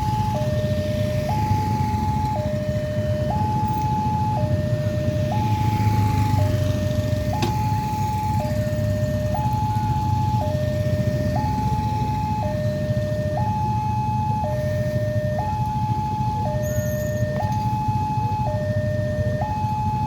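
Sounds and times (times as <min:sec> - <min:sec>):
two-tone level crossing alarm: 0:00.0 - 0:20.0.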